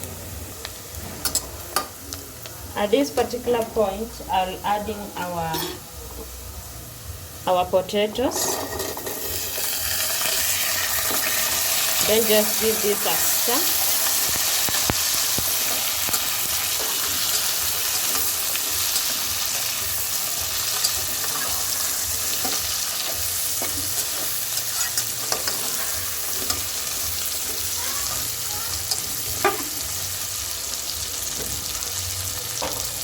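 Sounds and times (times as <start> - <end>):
potatoes sizzling in oil: 0.0 - 33.0.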